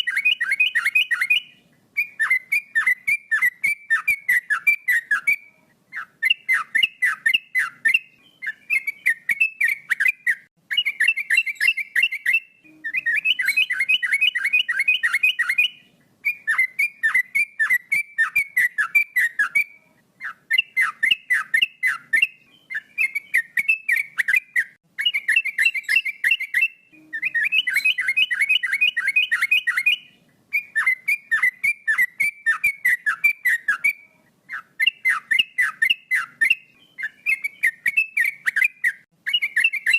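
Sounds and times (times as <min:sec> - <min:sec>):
bulbul whistled song: 0:00.0 - 0:39.9.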